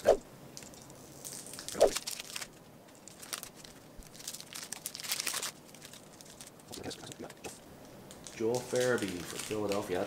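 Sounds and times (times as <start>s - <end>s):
cards rustling and ticking: 0.6s - 10.0s.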